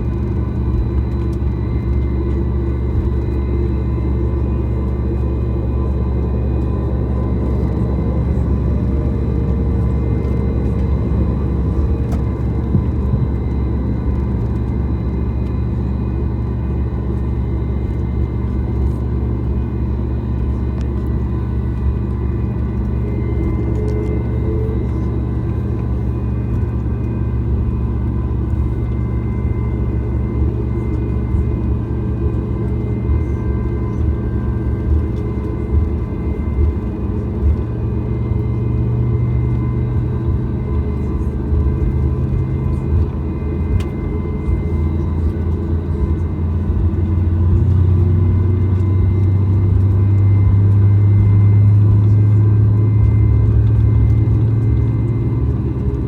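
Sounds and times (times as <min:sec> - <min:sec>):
airplane engines rumbling in cabin: 0:00.0 - 0:56.0
faint steady whines: 0:00.0 - 0:56.0.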